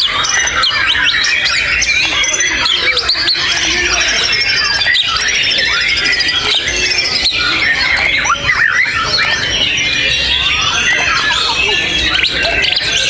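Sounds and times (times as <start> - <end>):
songbird chatter: 0.0 - 13.0.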